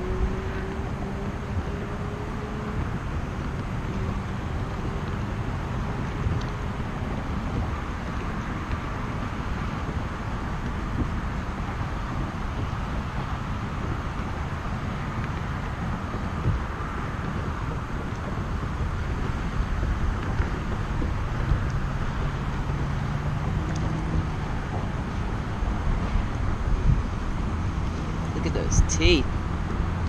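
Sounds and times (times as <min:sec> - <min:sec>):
wind on microphone: 0:00.0 - 0:30.0.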